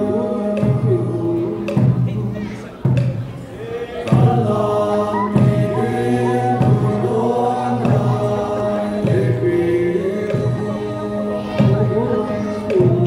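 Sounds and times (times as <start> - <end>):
group singing in unison: 0.0 - 2.2, 3.6 - 13.0.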